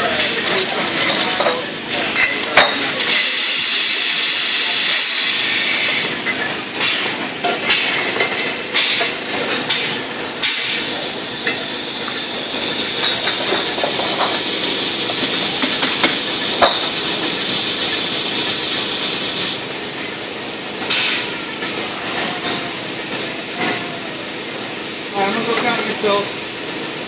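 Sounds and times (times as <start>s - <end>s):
bottle filling machine running: 0.0s - 27.0s.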